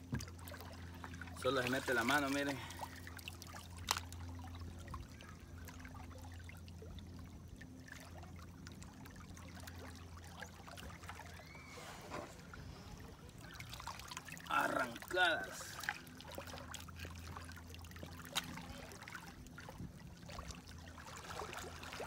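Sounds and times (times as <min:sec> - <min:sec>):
water trickling and lapping: 0:00.0 - 0:22.0.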